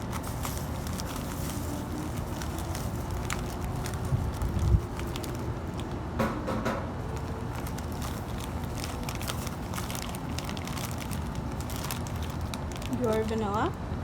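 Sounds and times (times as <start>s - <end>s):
plastic bag crinkling: 0.0s - 6.1s, 7.0s - 13.8s
steady low rumble: 0.0s - 6.2s, 7.0s - 14.0s.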